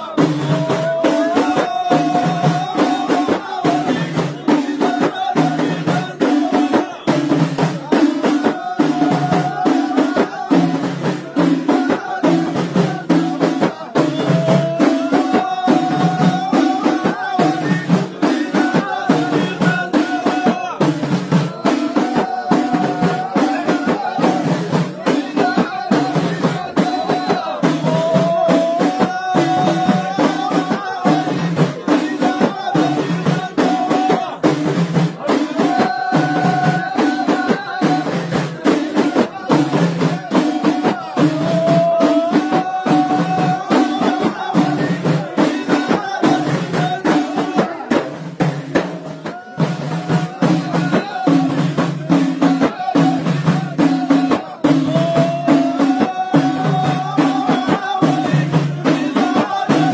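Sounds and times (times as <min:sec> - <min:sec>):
frame drums beating: 0:00.0 - 0:59.9
men chanting together: 0:00.0 - 0:59.9.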